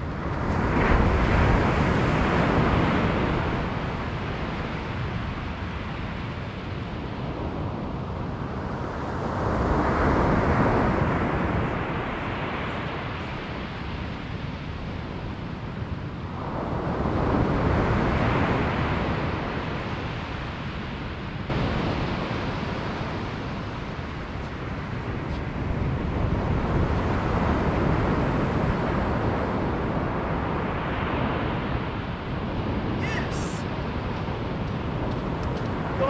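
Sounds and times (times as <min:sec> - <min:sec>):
waves breaking on beach: 0:00.0 - 0:36.0.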